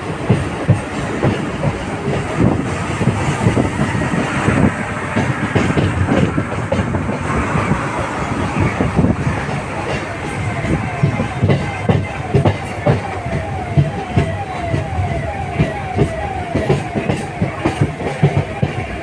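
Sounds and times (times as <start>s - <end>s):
train wheels clattering over rail joints: 0.0s - 19.0s.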